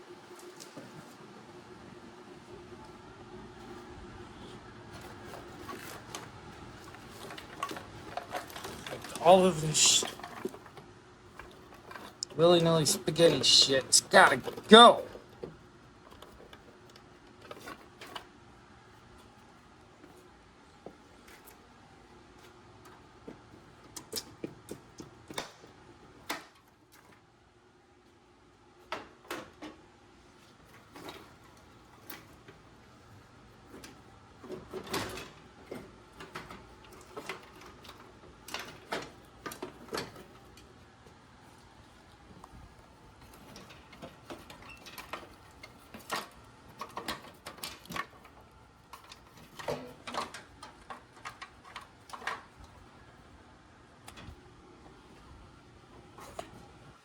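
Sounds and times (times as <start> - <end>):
clicks and rattles of wiring work: 4.9 - 27.3, 28.7 - 57.0.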